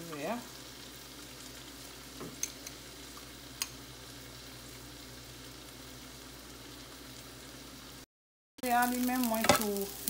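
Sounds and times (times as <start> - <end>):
eggs sizzling in a frying pan: 0.0 - 10.0.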